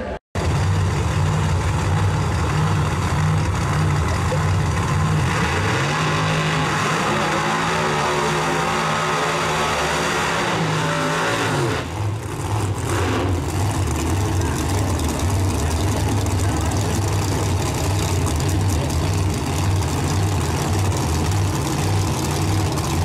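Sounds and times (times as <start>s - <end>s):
drag race car engines revving: 0.0s - 23.0s.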